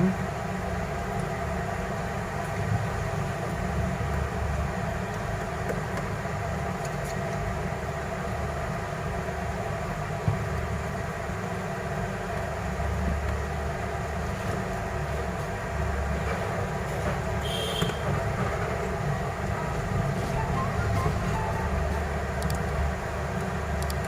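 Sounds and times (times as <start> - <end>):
low mechanical rumble with hiss: 0.0 - 24.0.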